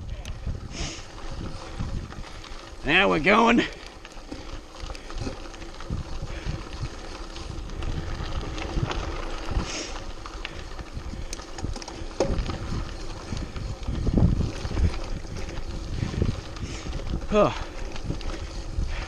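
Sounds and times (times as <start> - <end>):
bike rattling and knocking: 0.0 - 19.0
bike tyres on dirt trail: 0.0 - 19.0
wind buffeting microphone: 0.0 - 19.0.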